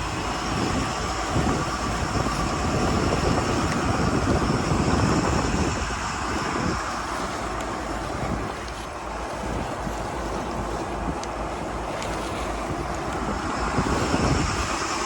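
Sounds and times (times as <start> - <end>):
boat engines rumbling: 0.0 - 15.0
wind and water rushing: 0.0 - 15.0.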